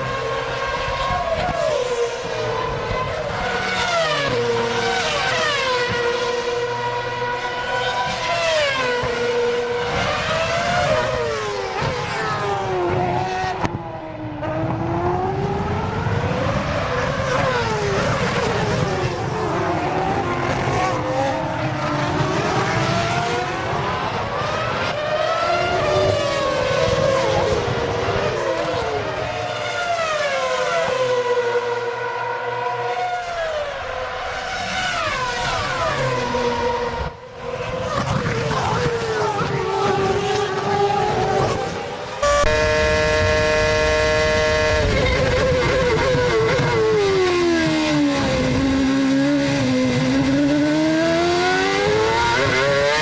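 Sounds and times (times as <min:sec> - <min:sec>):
racing car engines: 0:00.0 - 0:53.0.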